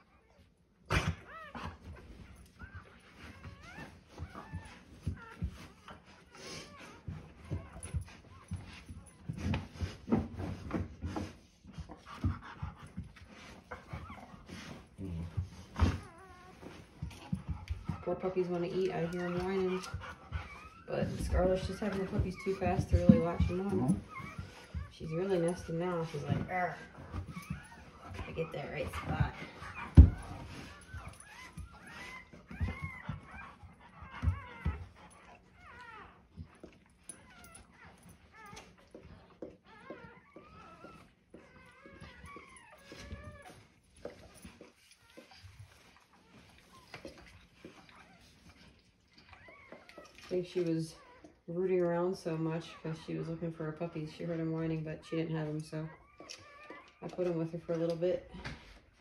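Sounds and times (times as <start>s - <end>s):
dog panting: 0.0s - 59.0s
puppy whining: 0.0s - 59.0s.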